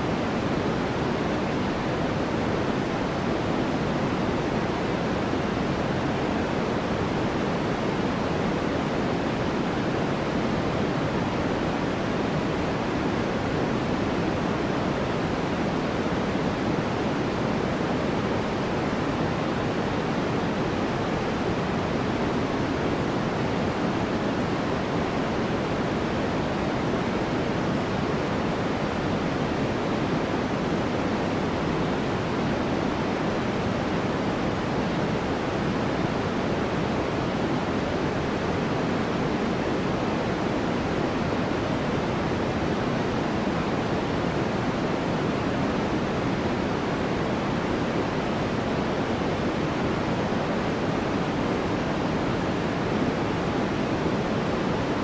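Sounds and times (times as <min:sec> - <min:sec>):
steady white noise: 0:00.0 - 0:55.0.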